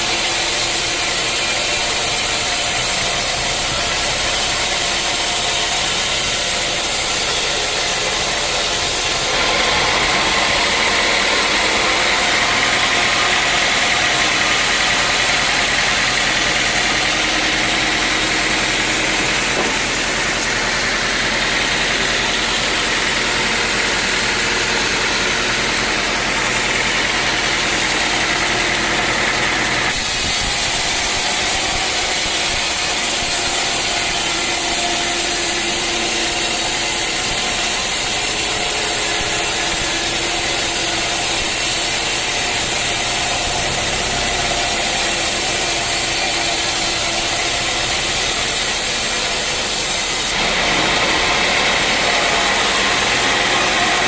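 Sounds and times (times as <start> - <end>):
noisier machine running: 0.0 - 54.0
sawmill machinery droning: 0.0 - 54.0.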